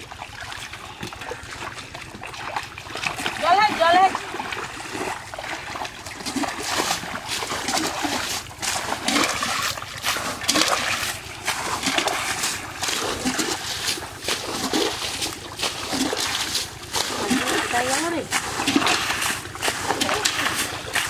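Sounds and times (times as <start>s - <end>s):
muddy water splashing: 0.0s - 21.0s.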